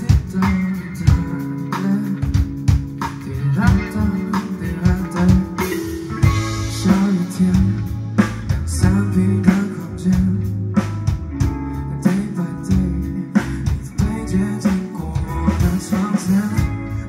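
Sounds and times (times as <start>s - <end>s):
drum kit hits: 0.0s - 17.0s
electric guitars: 0.0s - 17.0s.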